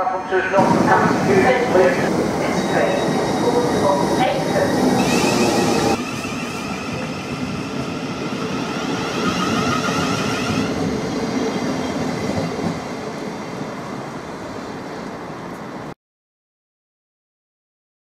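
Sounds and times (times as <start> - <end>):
train rumble: 0.0 - 15.9.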